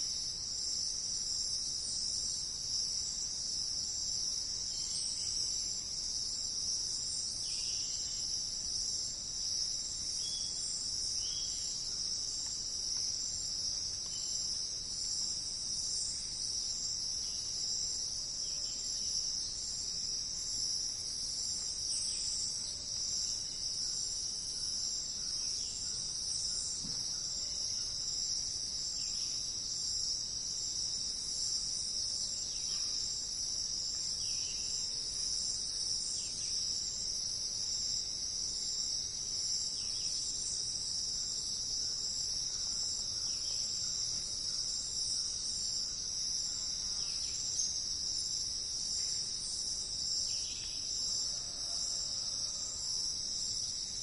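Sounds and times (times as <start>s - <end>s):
insect chorus trilling: 0.0s - 54.0s.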